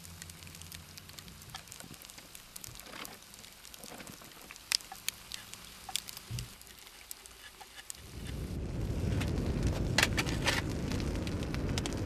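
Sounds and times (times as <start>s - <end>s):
campfire crackling: 0.0s - 12.0s
faint hiss: 0.0s - 12.0s.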